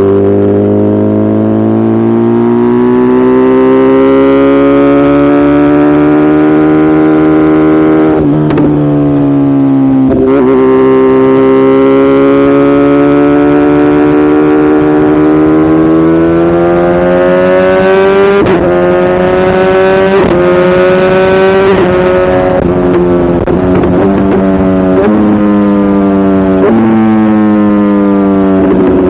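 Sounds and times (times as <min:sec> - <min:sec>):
gear changes: 0:00.0 - 0:29.0
motorcycle engine accelerating: 0:00.0 - 0:29.0.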